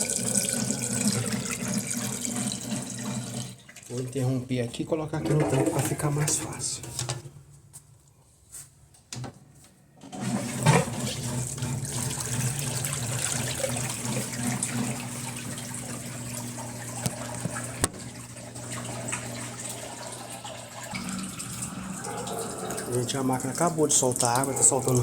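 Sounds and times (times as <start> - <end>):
drain pump rushing water: 0.0 - 7.0, 10.1 - 25.0.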